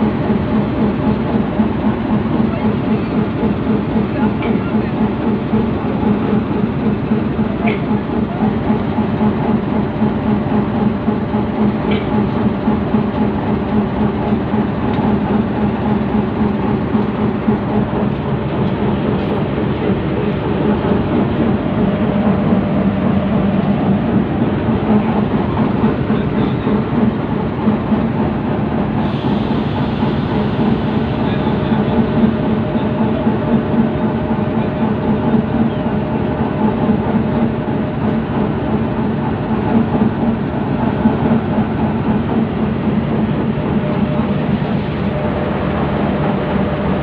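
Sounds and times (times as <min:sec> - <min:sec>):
diesel locomotive engine idling: 0:00.0 - 0:47.0.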